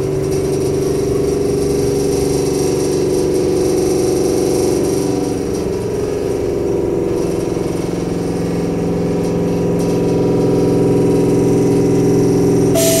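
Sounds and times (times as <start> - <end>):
electric train equipment humming: 0.0 - 13.0.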